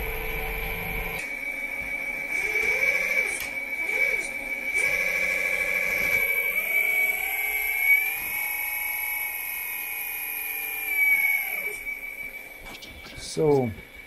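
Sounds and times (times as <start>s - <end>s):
hydraulic pump whining: 0.0s - 14.0s.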